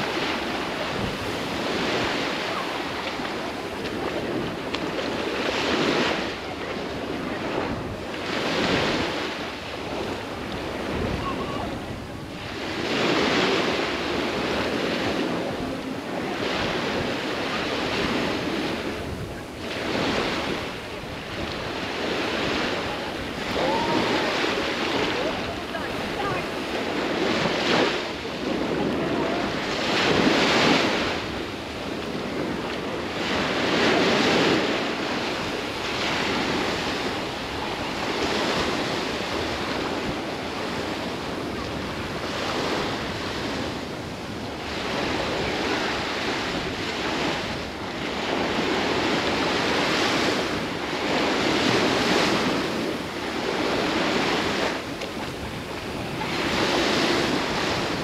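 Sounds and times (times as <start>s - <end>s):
surf breaking on sandy beach: 0.0s - 58.0s.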